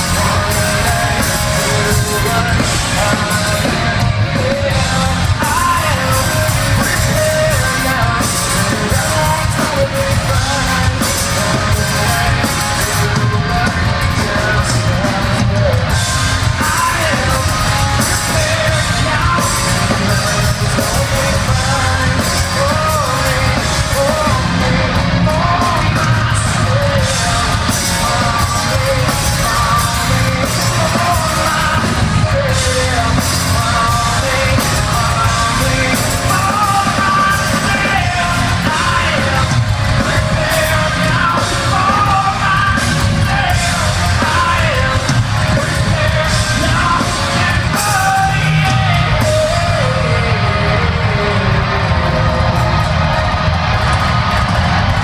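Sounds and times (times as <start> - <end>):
man singing lead vocal: 0.0 - 53.8
rock band playing live: 0.0 - 55.0.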